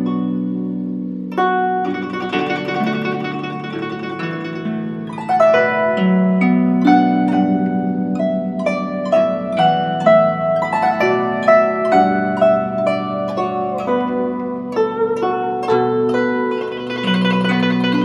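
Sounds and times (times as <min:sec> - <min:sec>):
plucked string instrument melody: 0:00.0 - 0:18.0.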